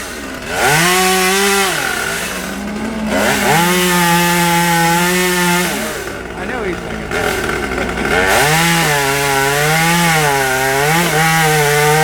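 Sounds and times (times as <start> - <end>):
small chainsaw revving: 0.0 - 12.0.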